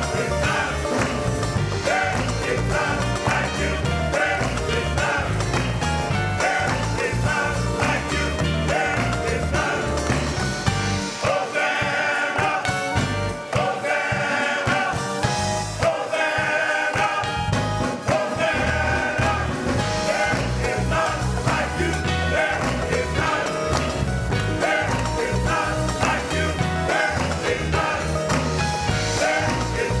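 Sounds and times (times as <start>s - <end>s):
gospel band playing: 0.0s - 30.0s
people singing: 0.0s - 30.0s.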